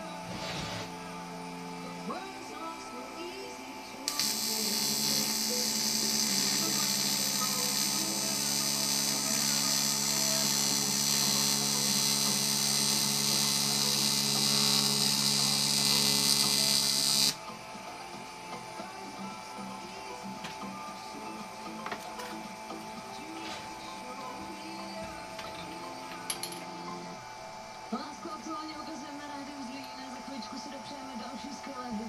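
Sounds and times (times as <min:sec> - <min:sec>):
welding arc buzzing and hissing: 0:00.0 - 0:30.0.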